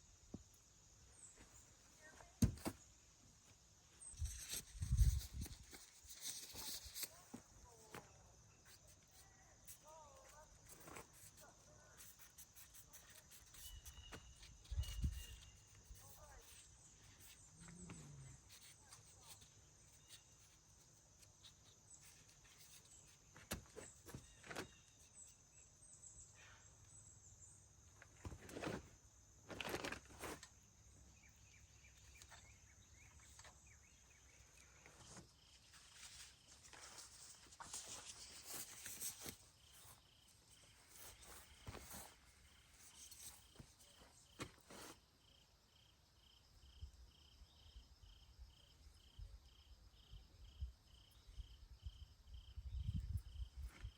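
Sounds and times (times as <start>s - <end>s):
cricket chirping: 0.0s - 53.9s.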